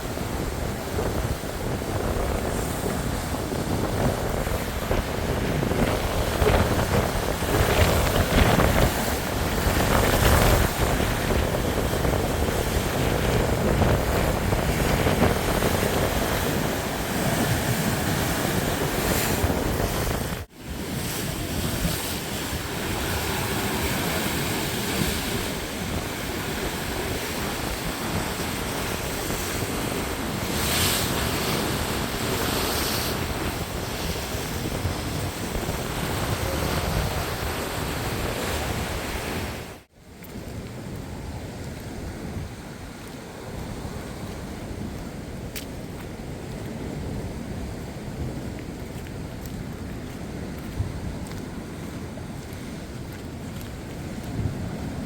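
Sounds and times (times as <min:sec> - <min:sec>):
ocean waves and rushing water: 0:00.0 - 0:55.0
wind buffeting microphone: 0:00.0 - 0:55.0.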